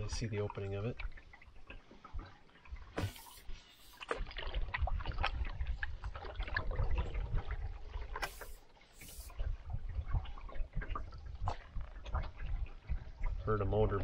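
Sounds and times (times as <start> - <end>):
paddle splashing water: 0.0 - 13.6
water gurgling: 0.0 - 14.0.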